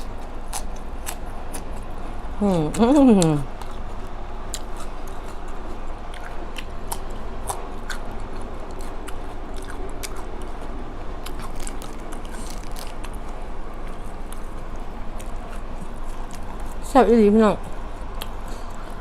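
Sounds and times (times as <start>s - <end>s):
chewing and crunching: 0.0s - 19.0s.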